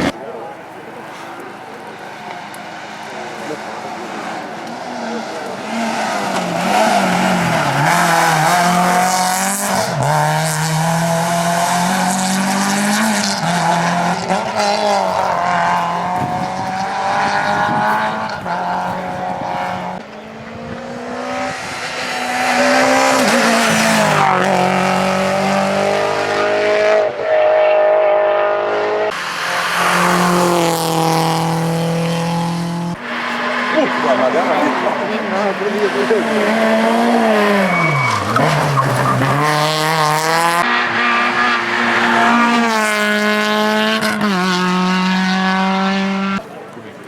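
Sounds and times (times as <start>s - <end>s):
rally car engines revving hard: 0.0s - 47.0s.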